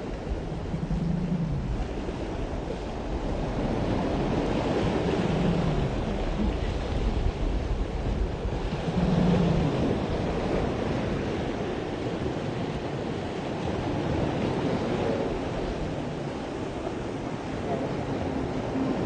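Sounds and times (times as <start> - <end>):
surf washing onto shore: 0.0 - 19.0.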